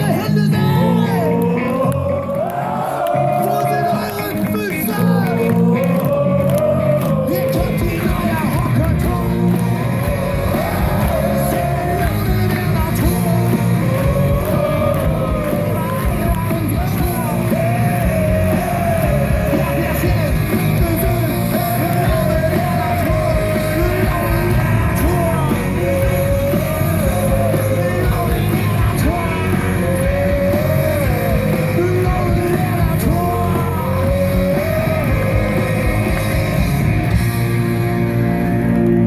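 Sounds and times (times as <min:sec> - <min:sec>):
punk rock band playing live: 0:00.0 - 0:39.0.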